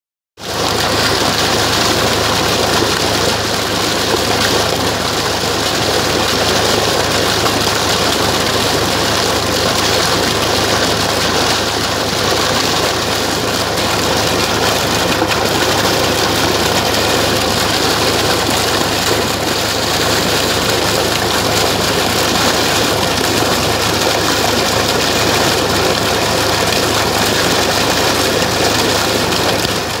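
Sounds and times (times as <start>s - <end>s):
water falling over rocks: 0.4s - 30.0s.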